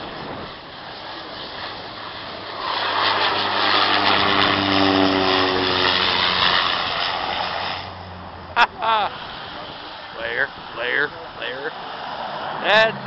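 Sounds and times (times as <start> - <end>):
propeller plane flying overhead: 0.0 - 13.0.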